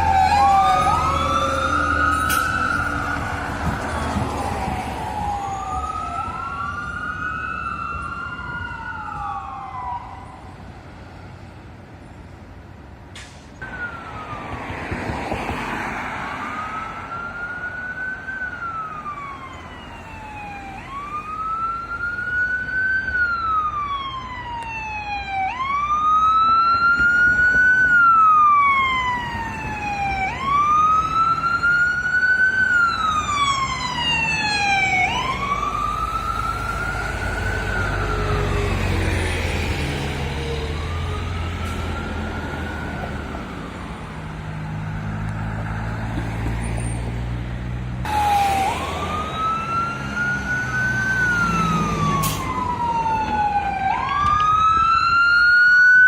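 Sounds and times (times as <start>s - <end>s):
sirens wailing: 0.0s - 11.0s, 13.6s - 56.0s.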